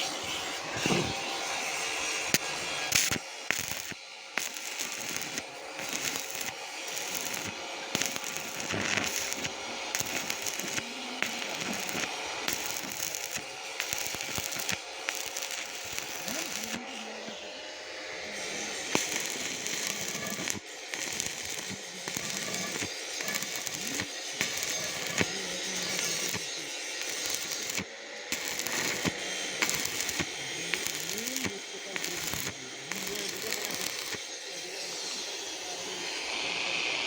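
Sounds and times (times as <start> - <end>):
welding arc crackling: 0.2 - 17.6, 18.2 - 36.1.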